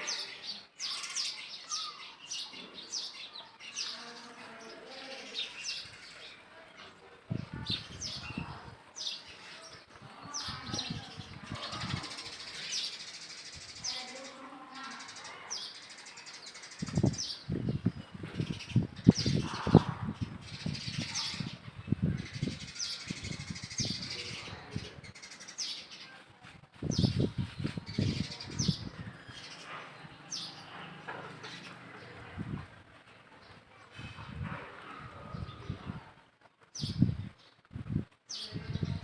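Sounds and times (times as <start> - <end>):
birds chirping: 0.0 - 26.2, 26.8 - 39.0.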